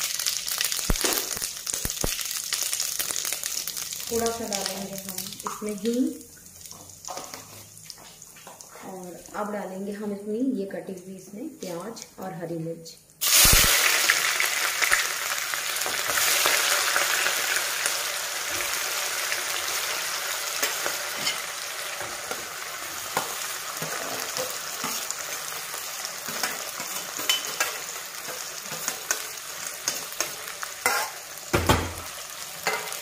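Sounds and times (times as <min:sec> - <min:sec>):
hot oil sizzling: 0:00.0 - 0:09.5, 0:13.2 - 0:33.0.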